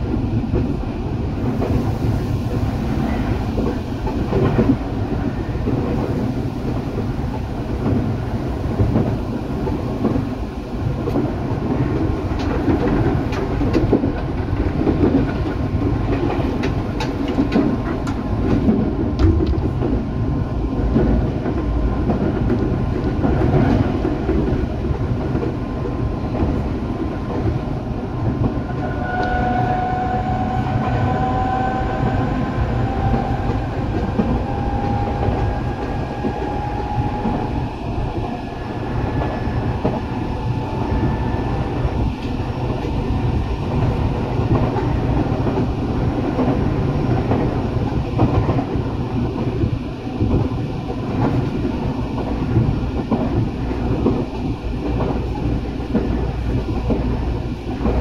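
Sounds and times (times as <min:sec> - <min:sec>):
train wheels rumbling on rail: 0:00.0 - 0:58.0
train wheels clicking: 0:02.6 - 0:58.0.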